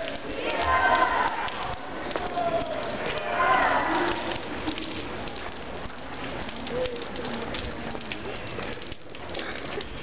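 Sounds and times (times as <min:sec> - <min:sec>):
faint murmured voices: 0:00.0 - 0:10.0
light rain pattering: 0:00.0 - 0:10.0.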